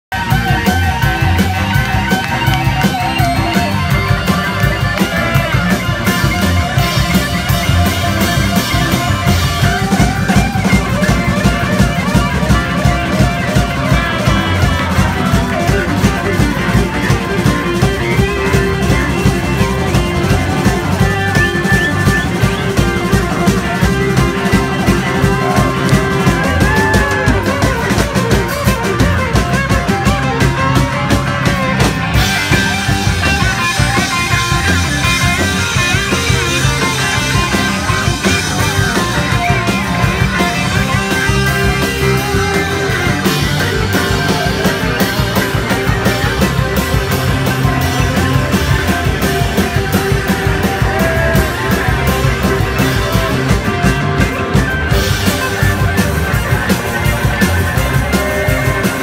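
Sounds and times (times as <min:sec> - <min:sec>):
electric bass: 0:00.0 - 0:59.0
electric guitars: 0:00.0 - 0:59.0
keyboards: 0:00.0 - 0:59.0
drum kit beat: 0:00.1 - 0:59.0.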